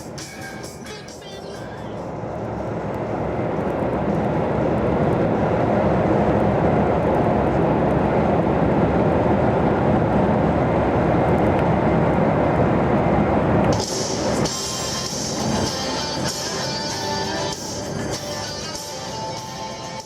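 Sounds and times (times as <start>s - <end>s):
heavy vehicle engine: 0.0s - 20.0s
road noise: 0.0s - 20.0s.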